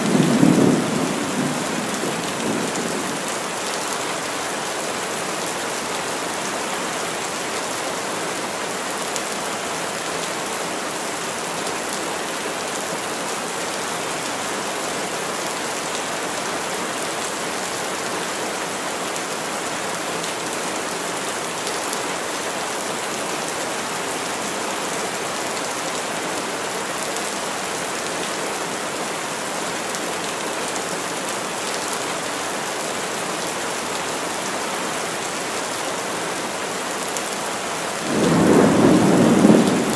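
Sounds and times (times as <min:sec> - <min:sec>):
heavy rain through trees: 0:00.0 - 0:39.9.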